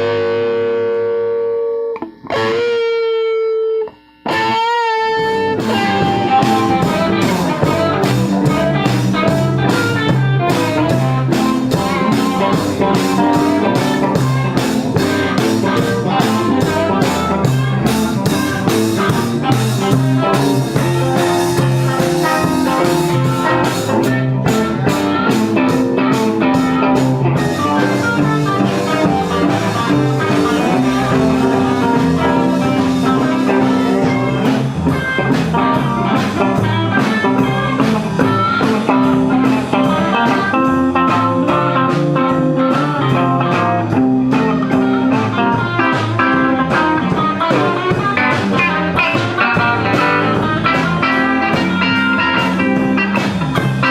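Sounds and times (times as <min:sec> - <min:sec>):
bass: 0:00.0 - 0:53.9
drum kit beat: 0:00.0 - 0:53.9
guitar riffs: 0:00.0 - 0:53.9.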